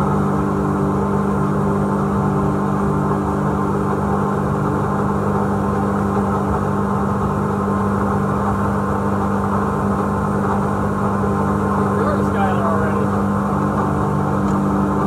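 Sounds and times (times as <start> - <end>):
jet boat engine droning: 0.0 - 15.0.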